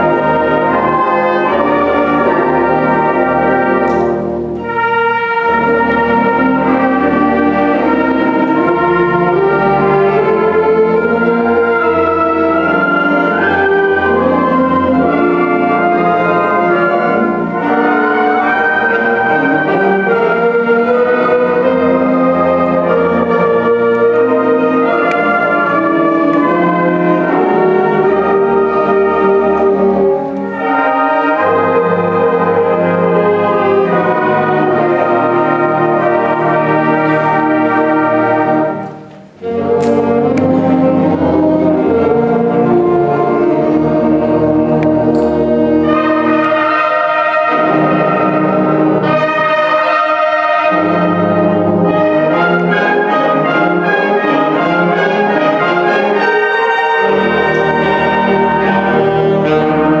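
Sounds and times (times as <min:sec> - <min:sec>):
concert band playing chords: 0:00.0 - 1:00.0.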